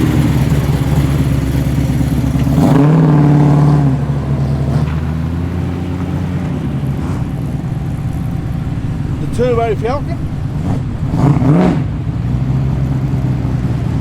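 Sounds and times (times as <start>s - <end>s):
car engine revving while passing: 0.0s - 14.0s.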